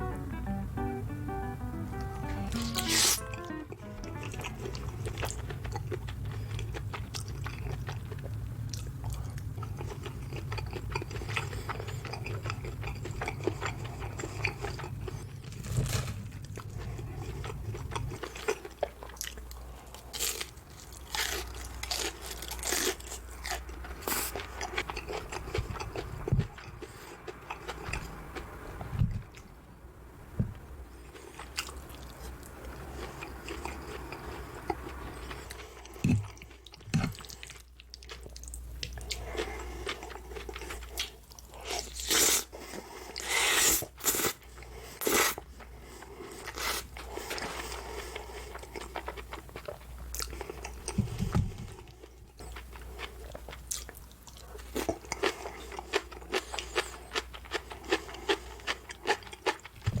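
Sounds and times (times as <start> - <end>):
crunching and chewing: 4.4 - 28.5, 31.1 - 60.0.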